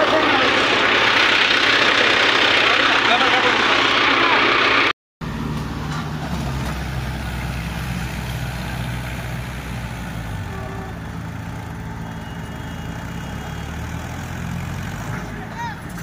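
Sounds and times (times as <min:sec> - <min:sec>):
tractor diesel engines under load: 0:00.0 - 0:16.0.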